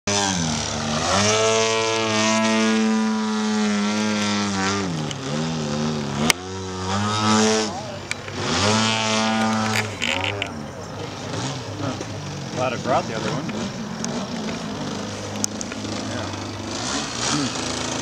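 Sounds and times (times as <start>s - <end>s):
model plane motor buzzing: 0.1s - 18.0s.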